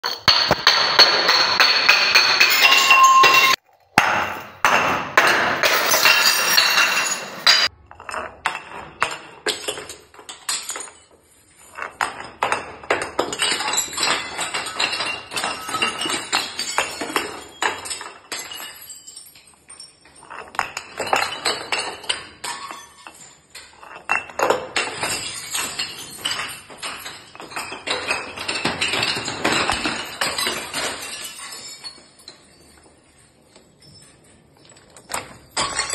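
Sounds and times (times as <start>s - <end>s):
glass bottles smashing on stone steps: 0.0s - 35.9s.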